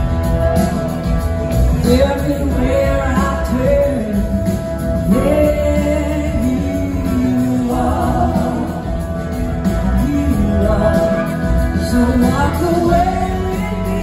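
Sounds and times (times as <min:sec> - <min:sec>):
live rock band playing: 0:00.0 - 0:14.0
person singing: 0:01.6 - 0:14.0.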